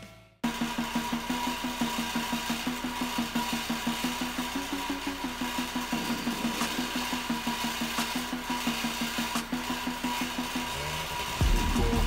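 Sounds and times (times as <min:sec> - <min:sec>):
thin high whine: 0:00.0 - 0:12.0
model excavator mechanical pulsing: 0:00.4 - 0:12.0.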